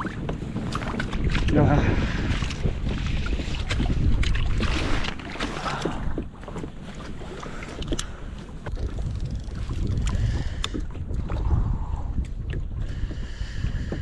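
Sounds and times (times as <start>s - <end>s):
water lapping against kayak: 0.0s - 14.0s
wind rumble on microphone: 0.0s - 14.0s.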